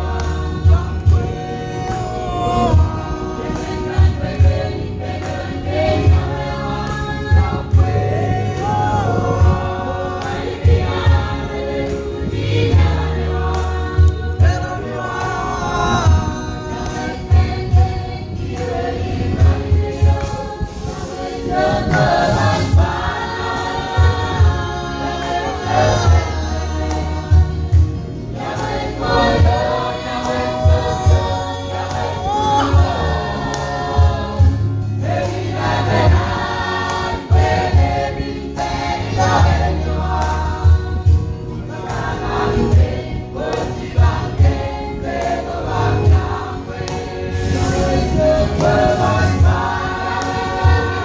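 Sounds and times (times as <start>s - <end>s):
men singing a hymn in harmony: 0.0s - 51.0s.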